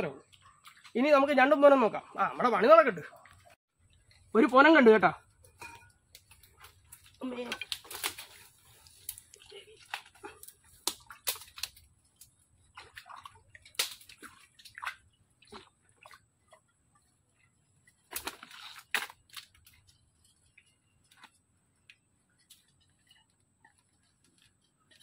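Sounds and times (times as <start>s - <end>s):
mud and water sloshing: 0.0s - 25.0s.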